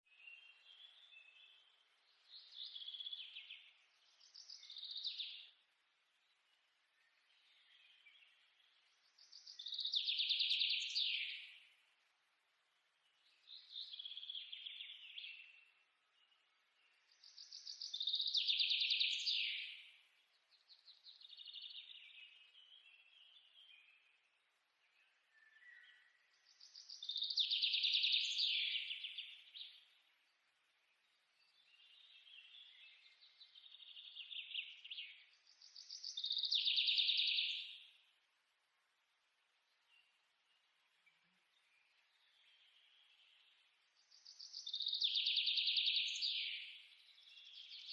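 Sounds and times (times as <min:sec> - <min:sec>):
bird chirping: 0:00.0 - 0:47.9.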